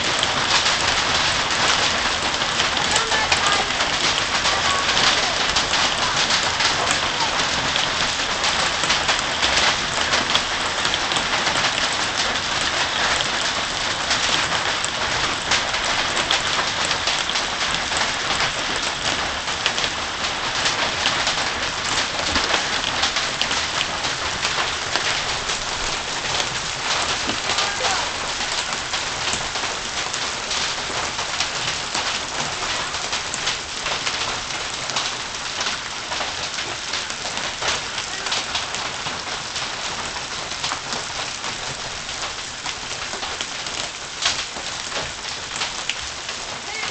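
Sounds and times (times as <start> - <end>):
hail and rain pelting down: 0.0 - 46.9.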